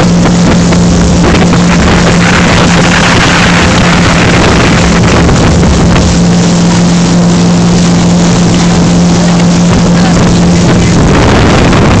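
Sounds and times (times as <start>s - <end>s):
boat engine droning: 0.0s - 12.0s
loud rushing noise: 0.0s - 12.0s.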